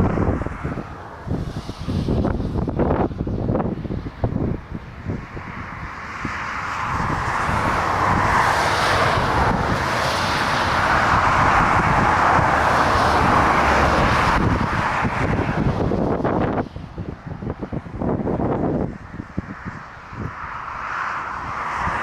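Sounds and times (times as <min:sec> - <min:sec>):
jet airliner engine noise: 0:00.0 - 0:22.0
wind buffeting microphone: 0:00.0 - 0:22.0.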